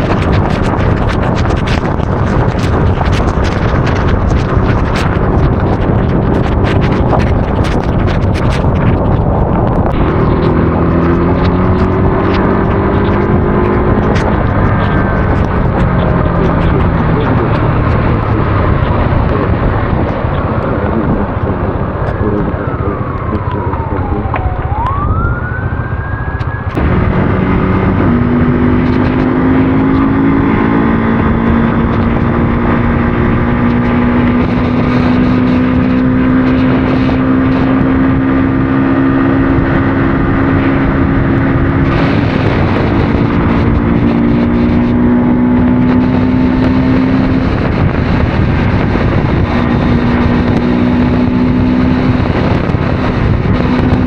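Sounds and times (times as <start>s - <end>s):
motorcycle engine running: 0.0s - 22.4s, 26.6s - 54.0s.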